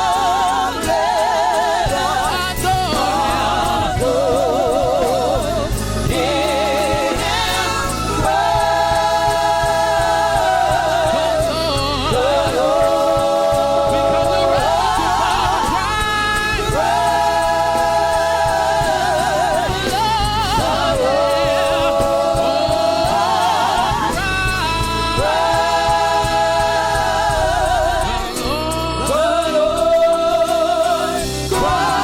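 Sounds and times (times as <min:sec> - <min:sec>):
gospel choir singing: 0:00.0 - 0:32.0
instrumental backing: 0:00.0 - 0:32.0.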